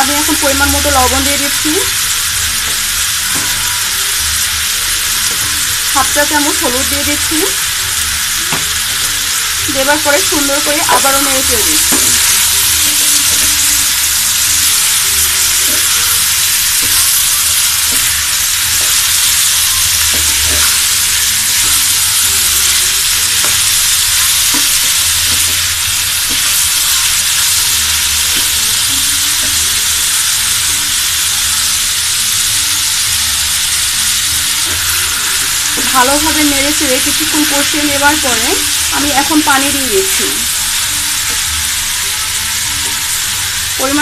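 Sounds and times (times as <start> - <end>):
vegetables sizzling in hot oil: 0.0 - 44.0.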